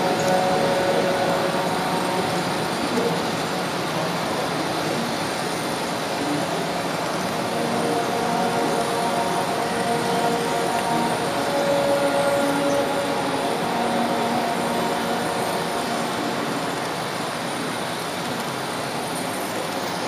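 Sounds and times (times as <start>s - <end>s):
faint steady tones: 0.0s - 19.9s.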